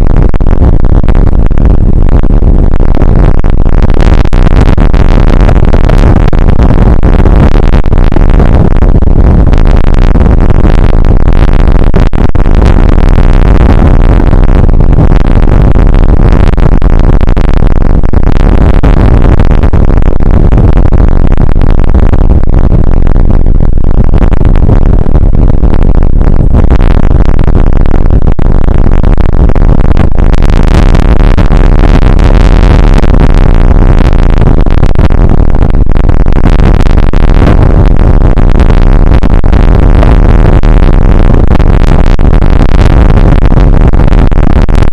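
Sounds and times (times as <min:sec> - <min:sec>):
deep rumble: 0:00.0 - 0:44.9.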